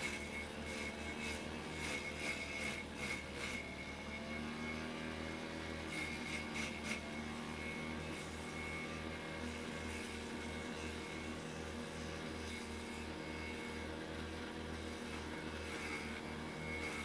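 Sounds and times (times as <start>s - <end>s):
motor driving cutting blade: 0.0s - 17.0s.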